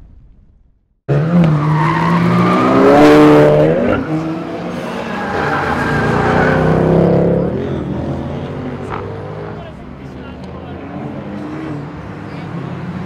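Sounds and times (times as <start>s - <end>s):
car engine revving: 1.1s - 13.0s.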